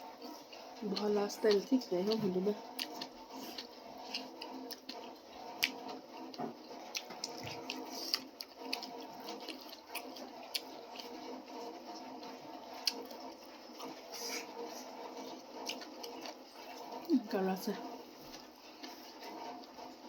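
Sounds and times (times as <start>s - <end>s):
faint background hum: 0.0s - 20.0s
chewing and lip smacking: 0.1s - 17.1s.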